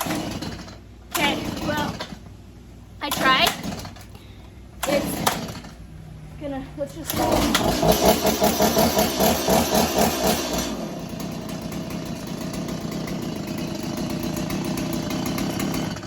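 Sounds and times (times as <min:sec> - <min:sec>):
chainsaw engine running: 0:00.0 - 0:02.2, 0:03.0 - 0:04.2, 0:04.8 - 0:05.9, 0:07.0 - 0:16.0.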